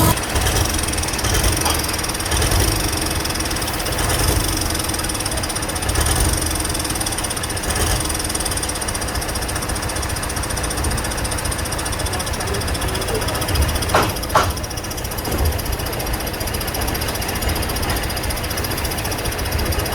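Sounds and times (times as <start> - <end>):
large engine idling: 0.0 - 19.9.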